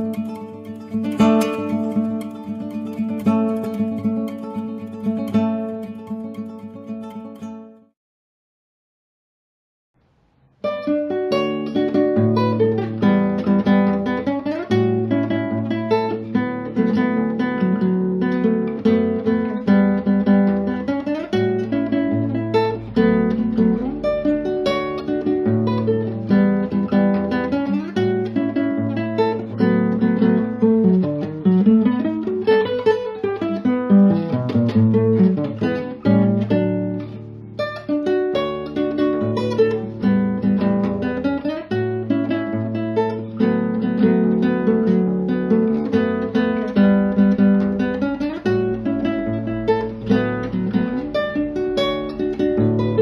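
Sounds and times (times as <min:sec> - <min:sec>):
fingerpicked classical guitar: 0:00.0 - 0:08.0, 0:10.4 - 0:53.0.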